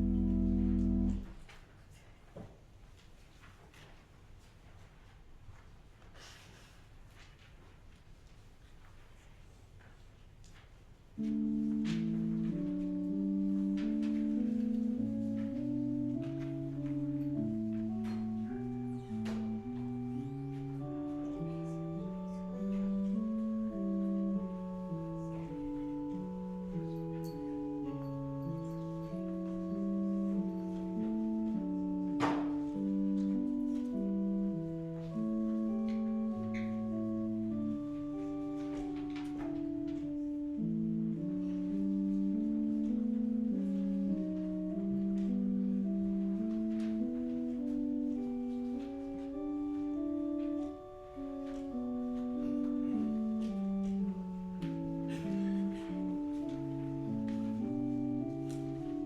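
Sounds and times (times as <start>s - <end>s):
organ playing church music: 0.0s - 1.5s, 11.2s - 59.0s.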